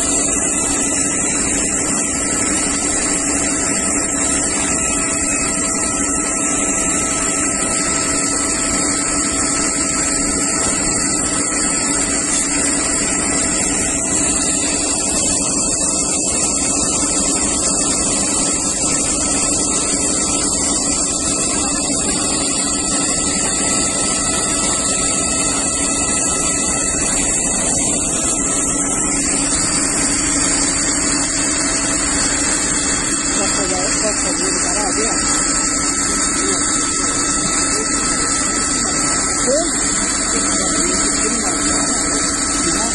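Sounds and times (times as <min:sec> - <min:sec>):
hose jet spraying water: 0:00.0 - 0:42.9
water pump running: 0:00.0 - 0:42.9.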